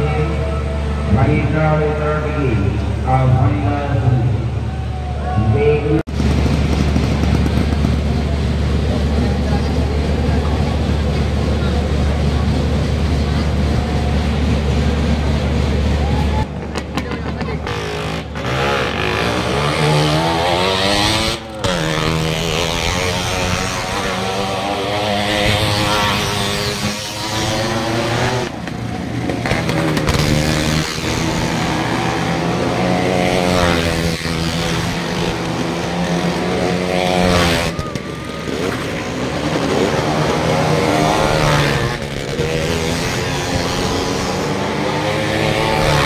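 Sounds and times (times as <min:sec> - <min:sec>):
engines revving: 0:00.0 - 0:46.0.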